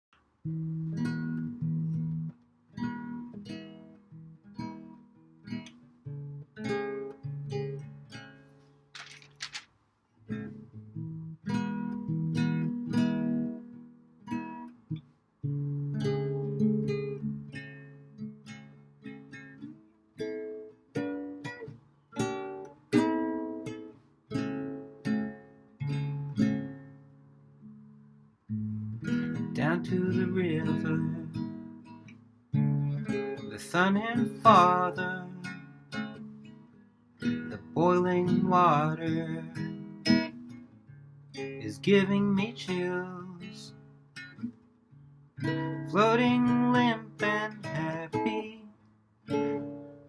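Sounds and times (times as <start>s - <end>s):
acoustic guitar strummed chords: 0.4s - 8.5s, 10.3s - 50.0s.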